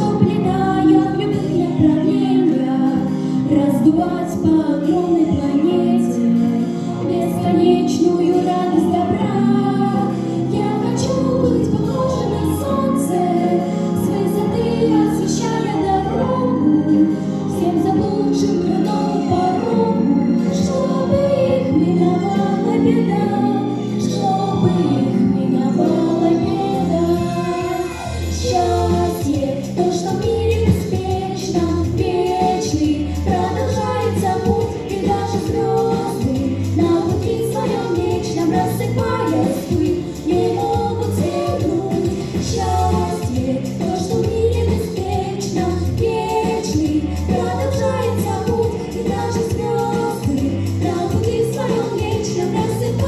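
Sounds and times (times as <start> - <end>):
girls singing a duet: 0.0 - 53.0
instrumental accompaniment with bass: 0.0 - 53.0.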